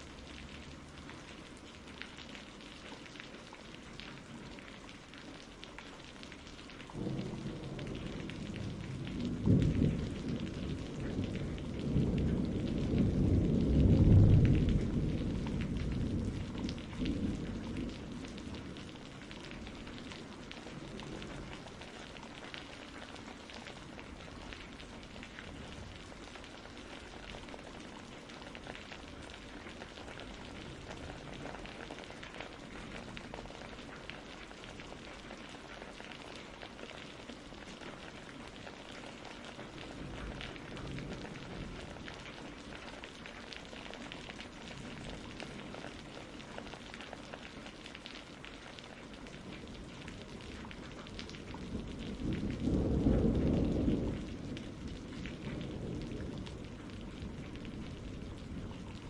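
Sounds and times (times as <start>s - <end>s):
steady rain: 0.0s - 59.0s
low rumble of thunder: 6.3s - 47.8s, 48.6s - 59.0s.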